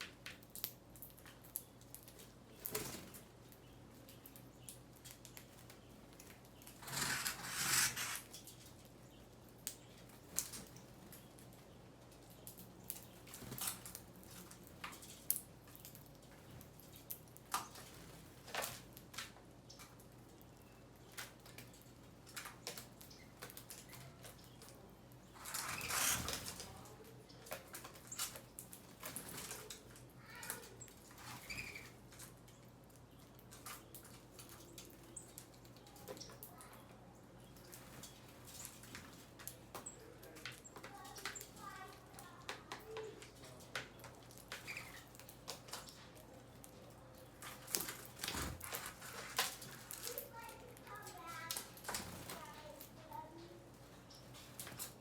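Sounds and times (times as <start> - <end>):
birds pecking and tapping: 0.0 - 55.0.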